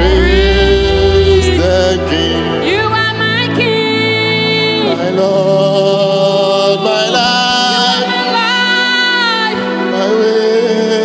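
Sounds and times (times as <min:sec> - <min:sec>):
man singing into microphone: 0:00.0 - 0:03.7, 0:04.6 - 0:11.0.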